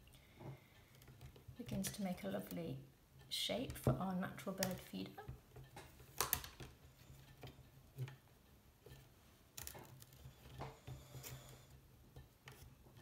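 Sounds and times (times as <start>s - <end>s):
willow sticks clicking and tapping: 0.1s - 13.0s.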